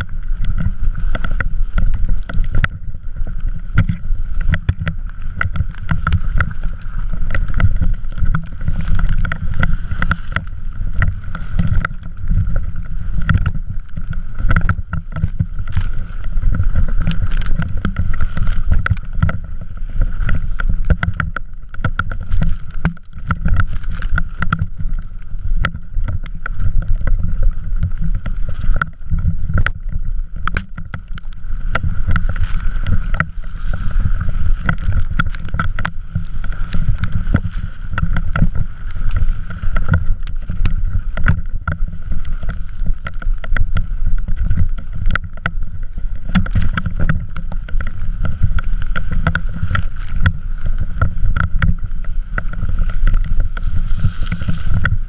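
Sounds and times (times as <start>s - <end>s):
heavy rumble over snow: 0.0s - 55.0s.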